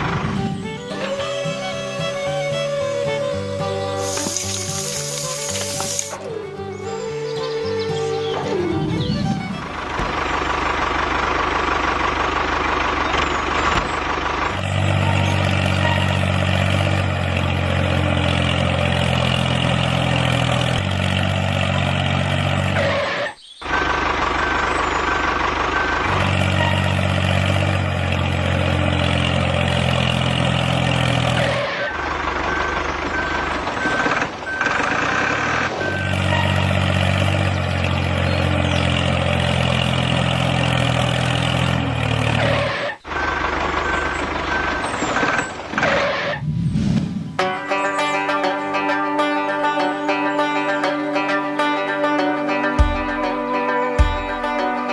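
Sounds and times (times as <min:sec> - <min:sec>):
heavy vehicle engine running: 0:00.0 - 0:54.9.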